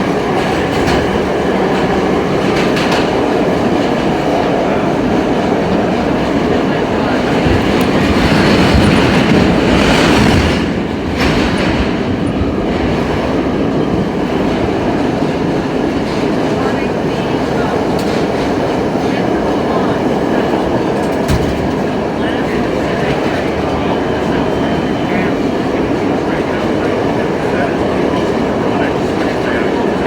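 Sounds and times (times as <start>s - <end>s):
rail clatter: 0.0s - 30.0s
subway train rumbling on track: 0.0s - 30.0s.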